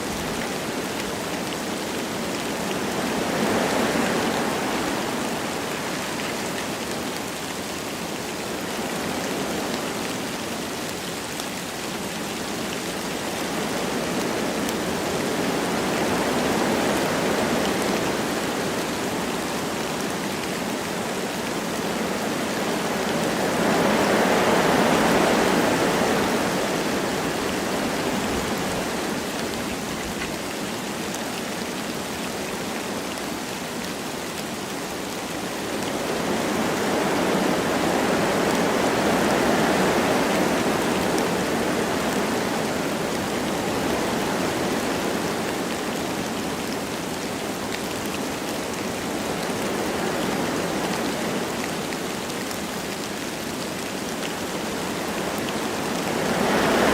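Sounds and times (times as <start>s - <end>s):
light rain: 0.0s - 56.9s
wind through trees: 0.0s - 56.9s.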